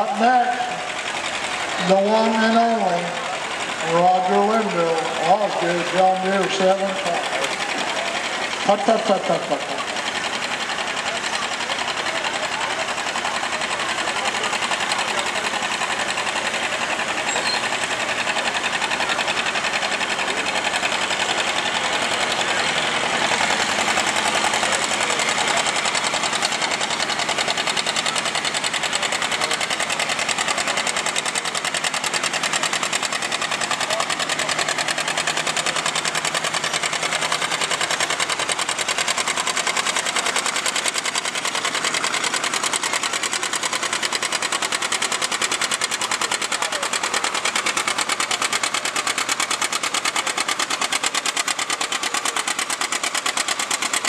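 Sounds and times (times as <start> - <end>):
tractor engine idling: 0.0 - 54.0.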